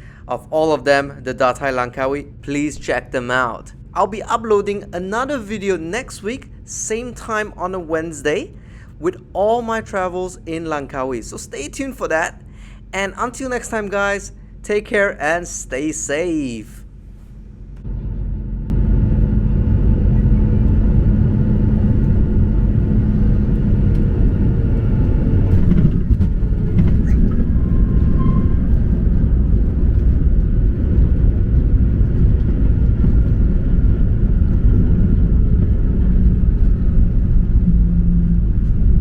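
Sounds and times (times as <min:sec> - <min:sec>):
airplane cabin rumble: 0:00.0 - 0:39.0.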